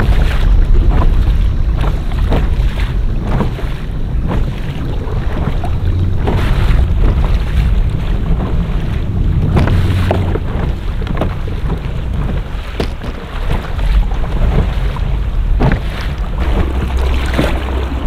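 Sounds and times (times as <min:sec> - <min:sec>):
water splashing against kayak: 0:00.0 - 0:18.0
wind rumble on microphone: 0:00.0 - 0:18.0.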